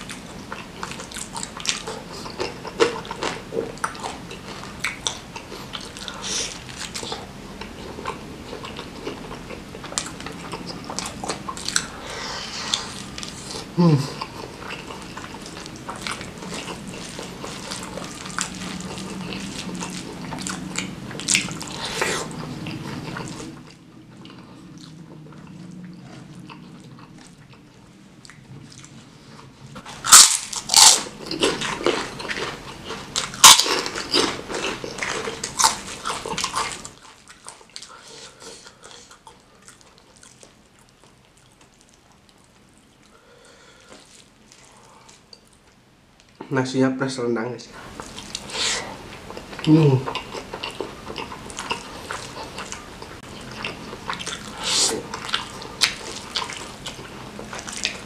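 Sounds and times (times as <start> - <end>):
person chewing food: 0.0 - 46.4, 47.8 - 58.0.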